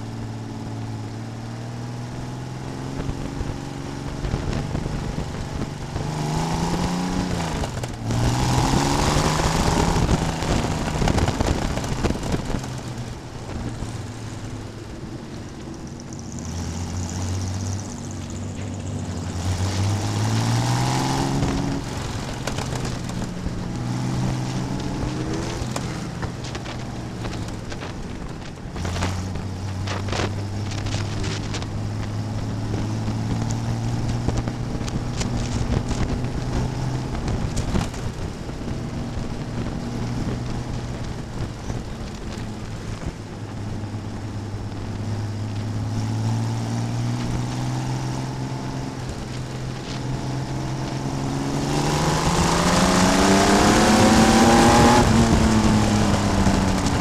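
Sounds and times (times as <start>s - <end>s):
race car engine: 0.0s - 57.0s
road and wind noise: 0.0s - 57.0s.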